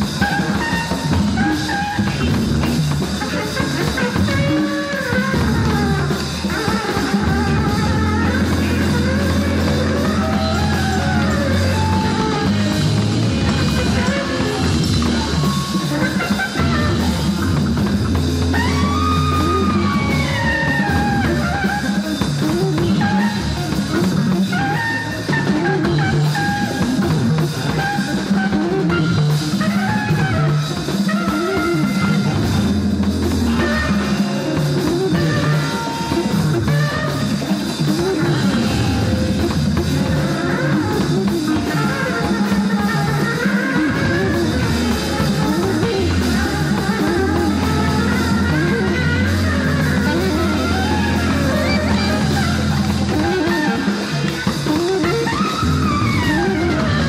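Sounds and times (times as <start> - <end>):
drum kit: 0.0 - 57.0
electric bass: 0.0 - 57.0
electric guitar lines: 0.0 - 57.0.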